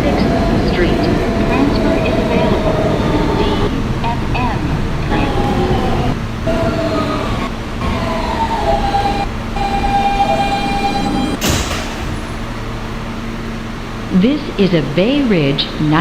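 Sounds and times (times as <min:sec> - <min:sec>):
subway car propulsion whine: 0:00.0 - 0:16.0
train braking rumble: 0:00.0 - 0:16.0.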